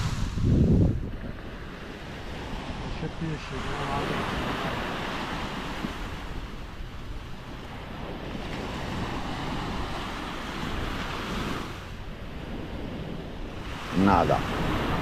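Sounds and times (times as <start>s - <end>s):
small waves washing on sand: 0.0s - 15.0s
wind buffeting microphone: 0.0s - 15.0s.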